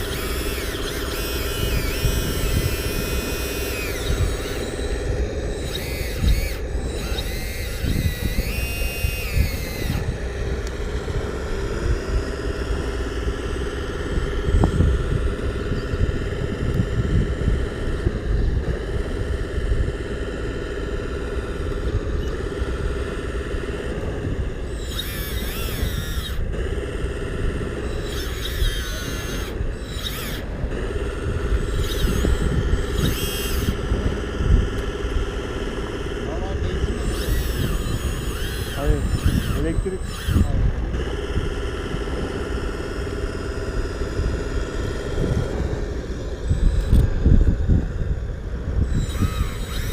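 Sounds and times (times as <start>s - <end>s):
small electric motors whining: 0.0s - 49.9s
steady low rumble: 0.0s - 49.9s.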